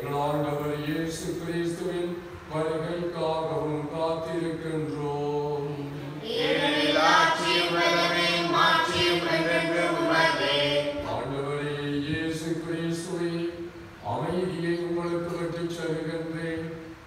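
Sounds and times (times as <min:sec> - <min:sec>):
man chanting a prayer: 0:00.0 - 0:06.2, 0:08.4 - 0:16.9.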